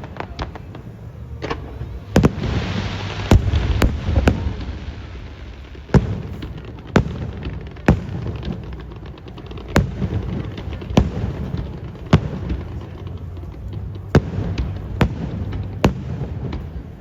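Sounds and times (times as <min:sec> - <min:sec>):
fireworks bangs: 0:00.0 - 0:17.0
fireworks crackling hiss: 0:00.0 - 0:17.0
fireworks pops: 0:00.0 - 0:17.0.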